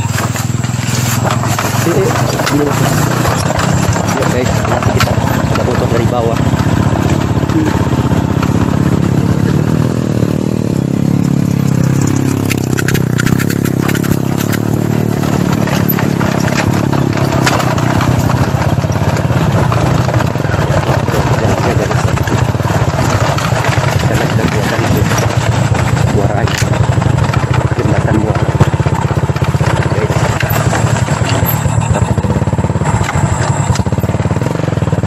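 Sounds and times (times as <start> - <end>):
rattling: 0.0 - 35.0
small engine running: 0.0 - 35.0.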